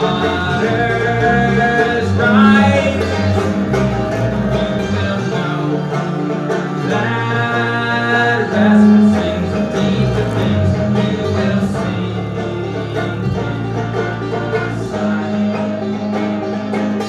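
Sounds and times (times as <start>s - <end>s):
banjo picking notes: 0.0s - 17.0s
bowed double bass: 0.0s - 17.0s.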